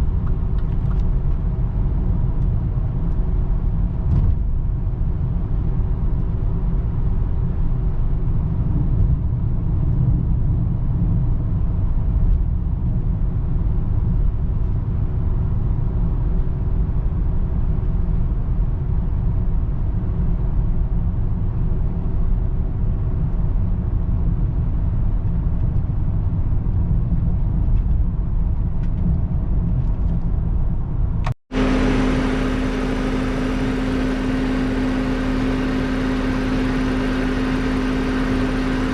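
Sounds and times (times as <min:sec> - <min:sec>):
car engine and road rumble: 0:00.0 - 0:38.9
engine humming steadily: 0:00.0 - 0:38.9.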